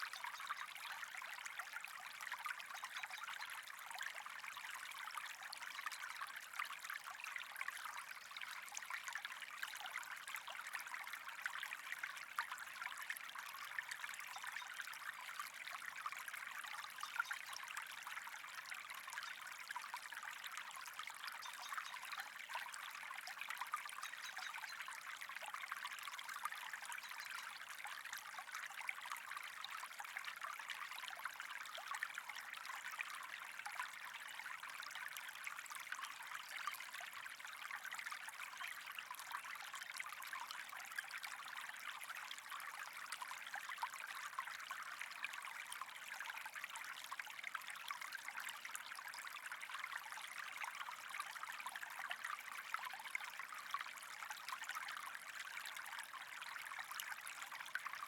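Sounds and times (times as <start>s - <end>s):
water trickling and flowing: 0.0s - 58.0s.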